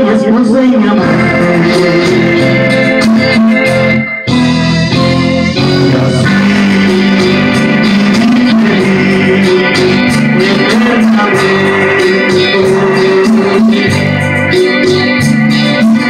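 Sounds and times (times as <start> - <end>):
instrumental backing music: 0.0 - 16.0.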